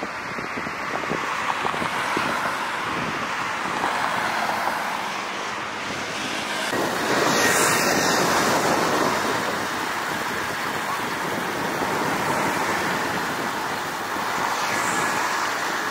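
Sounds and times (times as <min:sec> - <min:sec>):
street ambience rushing noise: 0:00.0 - 0:15.9.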